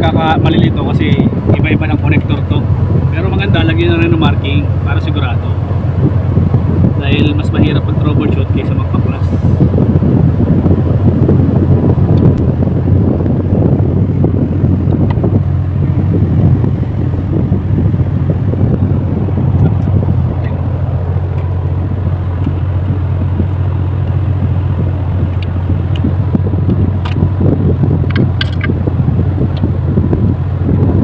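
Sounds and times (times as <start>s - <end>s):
steady low rumble: 0.0s - 31.0s
wind buffeting microphone: 0.0s - 31.0s.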